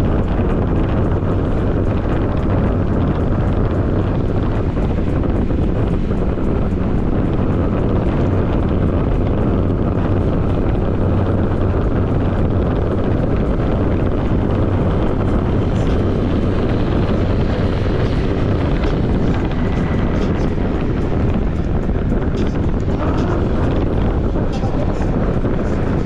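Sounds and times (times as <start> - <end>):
road noise: 0.0 - 26.0
scooter engine hum: 0.0 - 26.0
wind rush over microphone: 0.0 - 26.0.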